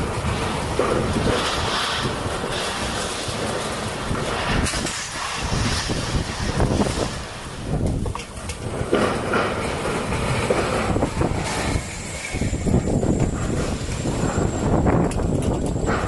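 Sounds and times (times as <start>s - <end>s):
blown debris knocking and rattling: 0.0s - 16.0s
strong wind gusting: 0.0s - 16.0s.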